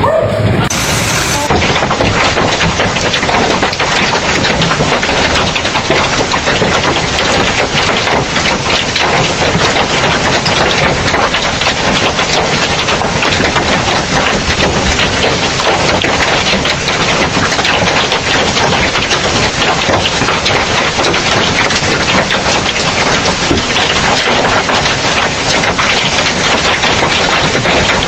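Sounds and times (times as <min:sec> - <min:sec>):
hailstones pelting hard surface: 0:00.7 - 0:28.0.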